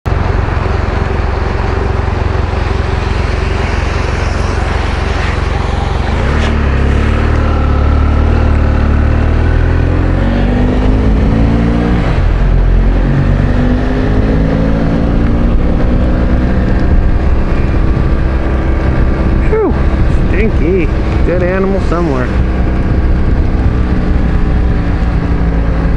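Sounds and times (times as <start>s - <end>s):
motorcycle engine revving: 0.1s - 25.9s
wind rumble on microphone: 0.1s - 25.9s.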